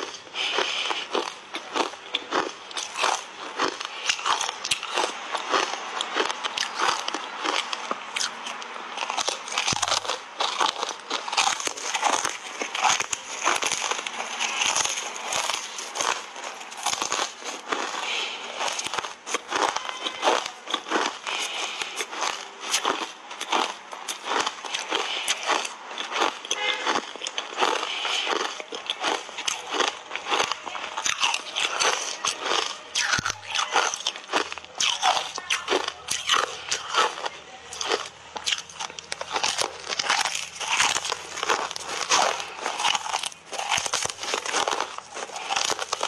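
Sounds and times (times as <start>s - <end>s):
ice bars crunching between teeth: 0.0s - 46.0s.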